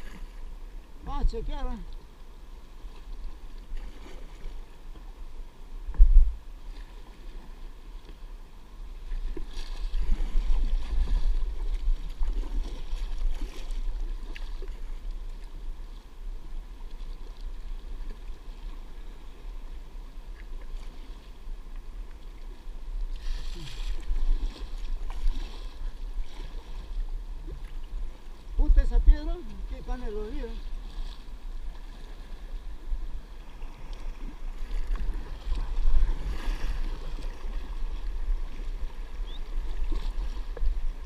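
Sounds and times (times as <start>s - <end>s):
water splashing around a kayak: 0.0s - 41.0s.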